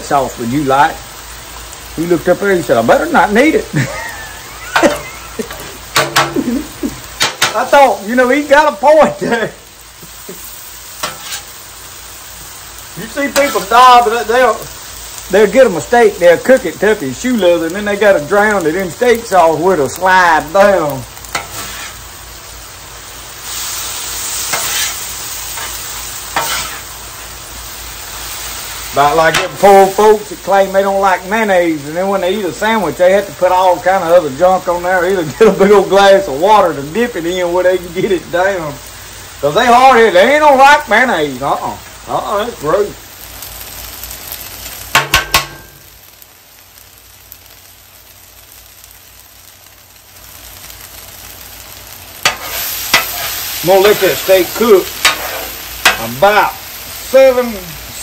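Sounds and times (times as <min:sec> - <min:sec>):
steak sizzling on griddle: 0:00.0 - 0:58.0.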